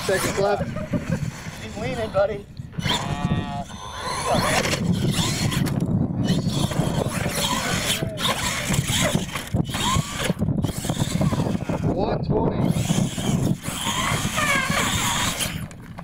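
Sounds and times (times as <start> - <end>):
electric motor whining: 0.0 - 16.0
steady outdoor noise: 0.0 - 16.0.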